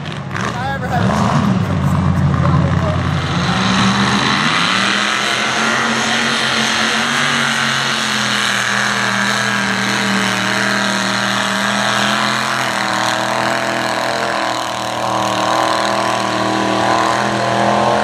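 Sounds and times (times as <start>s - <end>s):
truck engine running hard: 0.0s - 18.0s.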